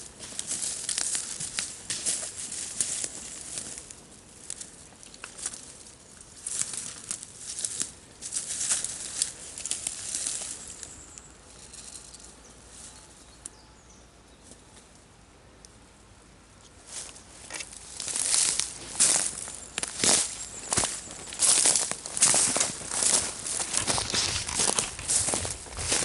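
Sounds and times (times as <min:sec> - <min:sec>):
rustling and crackling: 0:00.0 - 0:13.1, 0:16.6 - 0:26.0.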